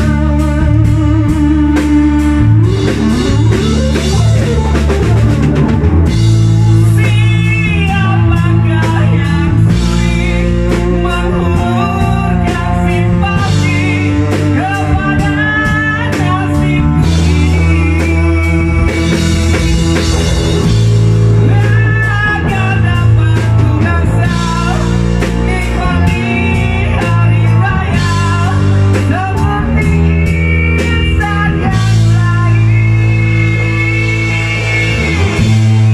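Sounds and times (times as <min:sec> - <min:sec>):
drum kit: 0:00.0 - 0:35.9
electric bass: 0:00.0 - 0:35.9
electric guitar: 0:00.0 - 0:35.9
person singing: 0:00.0 - 0:35.9.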